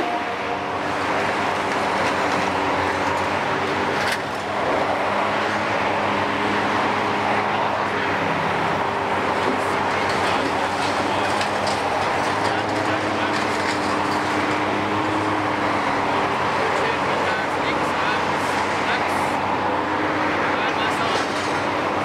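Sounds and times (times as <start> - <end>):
excavator diesel engine and hydraulics: 0.0 - 22.0.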